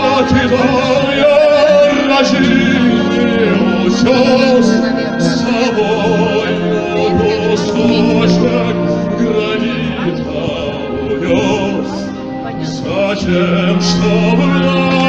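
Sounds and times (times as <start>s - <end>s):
military band music over loudspeakers: 0.0s - 15.0s
person singing: 0.0s - 15.0s.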